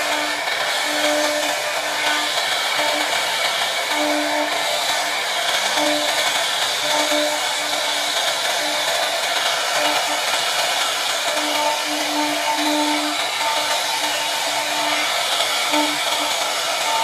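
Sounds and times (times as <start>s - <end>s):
router spindle whirring: 0.0s - 17.0s.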